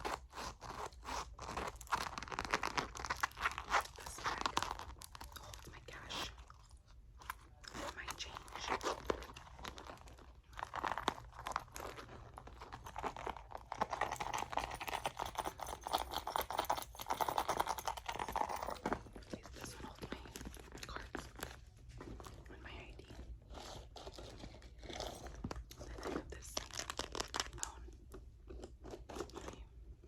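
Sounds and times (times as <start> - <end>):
crinkly rustling: 0.0 - 29.7.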